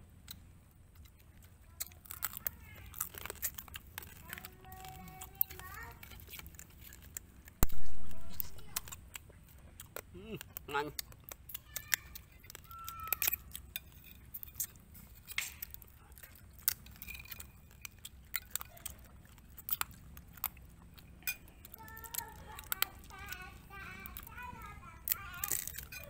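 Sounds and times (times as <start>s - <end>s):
crab shell cracking and chewing: 0.0s - 26.0s.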